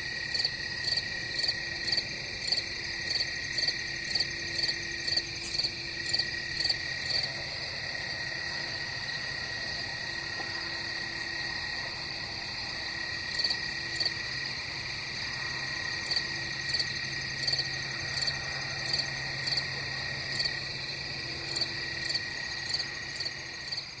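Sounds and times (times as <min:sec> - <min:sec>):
crickets trilling: 0:00.0 - 0:24.0
loud cricket chirps: 0:00.0 - 0:24.0.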